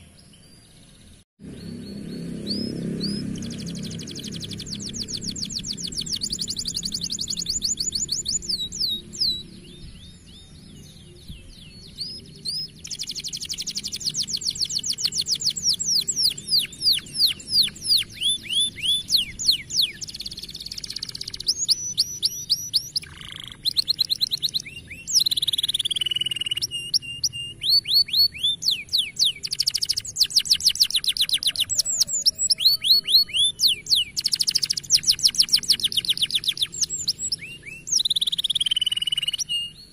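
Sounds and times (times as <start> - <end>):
canary singing rapid trills: 1.4 - 10.6, 11.9 - 39.9.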